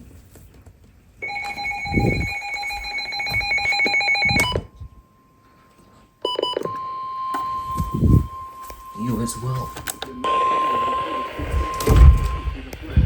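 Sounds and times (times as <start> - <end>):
short beeps: 1.2 - 5.2, 6.2 - 13.0
faint steady tone: 1.2 - 13.0.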